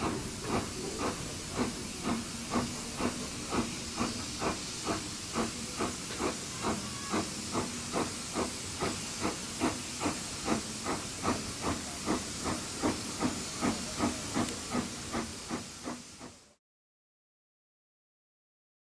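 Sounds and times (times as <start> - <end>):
hiss of steam: 0.0 - 16.6
steam locomotive exhaust beats: 0.0 - 16.6.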